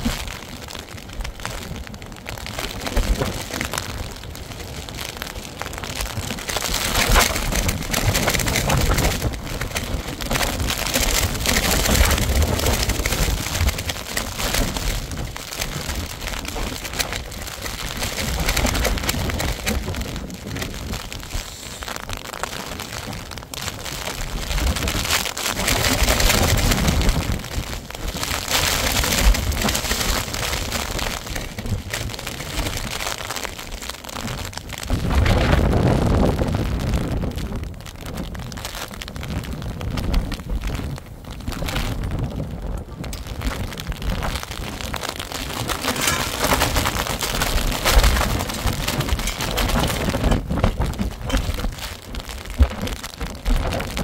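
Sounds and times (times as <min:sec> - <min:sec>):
wind gusting on microphone: 0:00.0 - 0:54.0.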